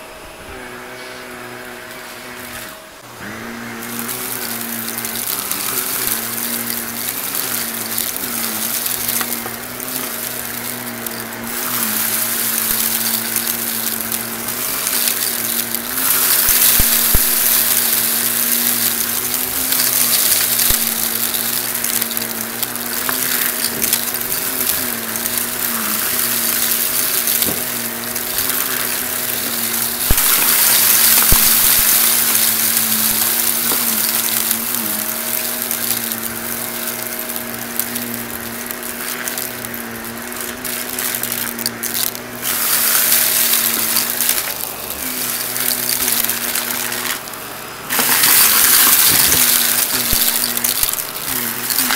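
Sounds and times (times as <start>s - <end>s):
vacuum cleaner motor whine: 0.0s - 51.9s
debris clicking into vacuum: 3.2s - 51.9s.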